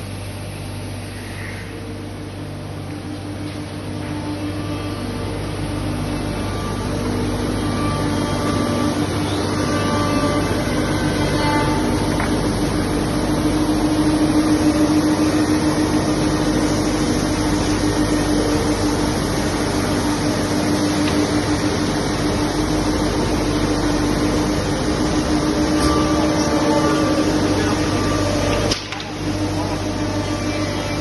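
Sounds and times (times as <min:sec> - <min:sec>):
machine humming and machining: 0:00.0 - 0:31.0.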